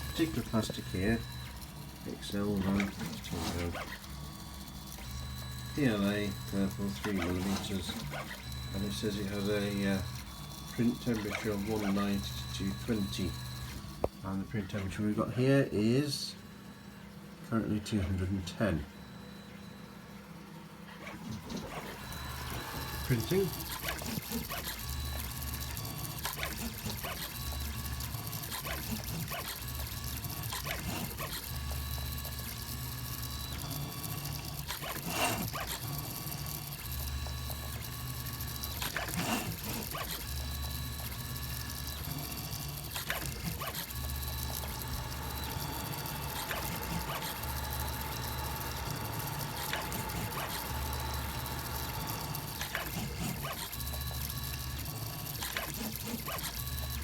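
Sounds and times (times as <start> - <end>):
stepper motors whining: 0.0 - 15.2, 20.8 - 57.0.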